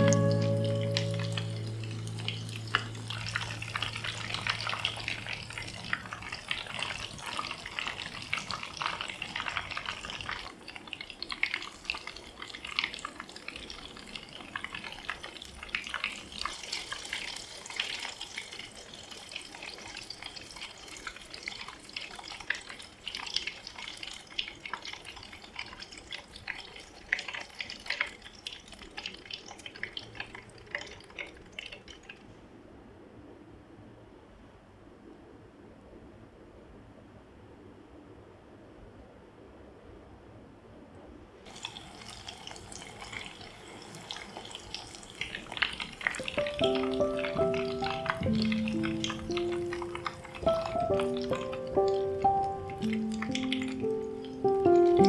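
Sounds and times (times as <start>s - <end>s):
oil popping and crackling: 0.0s - 32.3s, 41.5s - 55.0s.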